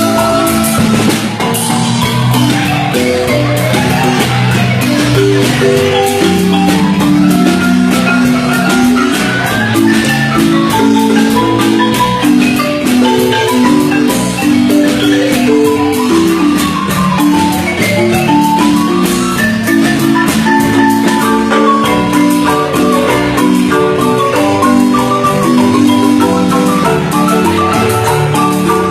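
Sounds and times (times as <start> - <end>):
marimba music: 0.0 - 28.9.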